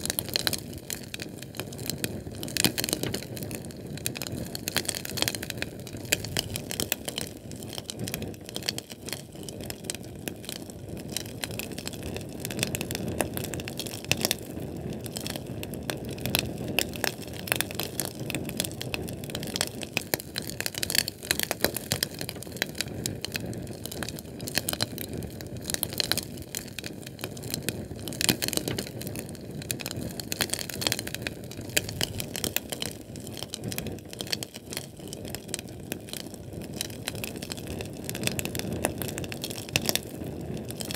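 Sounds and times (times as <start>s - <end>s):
fire crackling and popping: 0.0s - 40.9s
low rushing of flame: 0.0s - 40.9s.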